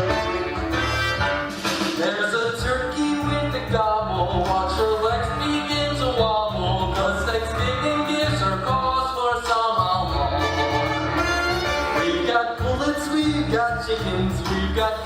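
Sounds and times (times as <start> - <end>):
instrumental accompaniment: 0.0 - 15.0
singing melody: 0.0 - 15.0.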